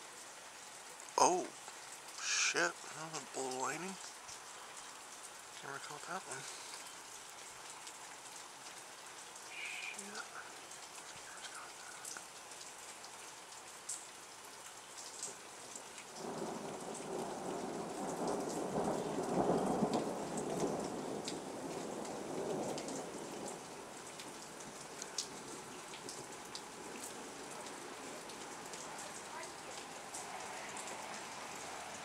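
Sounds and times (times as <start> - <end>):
raindrops ticking close by: 0.0 - 32.0
steady rain falling: 0.0 - 32.0.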